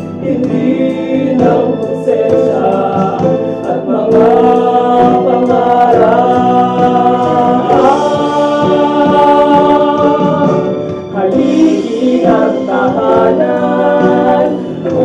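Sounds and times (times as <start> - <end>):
group of singers: 0.0 - 15.0
instrumental backing: 0.0 - 15.0.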